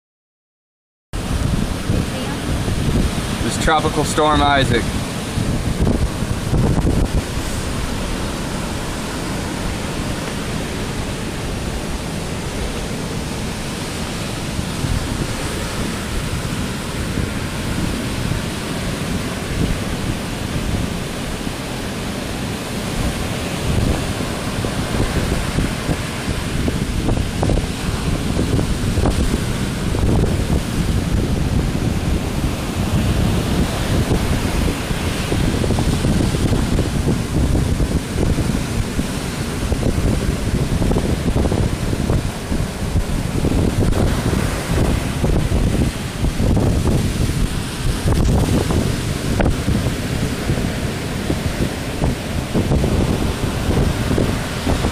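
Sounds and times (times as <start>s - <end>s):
heavy surf breaking: 1.2s - 54.9s
wind buffeting microphone: 1.2s - 54.9s.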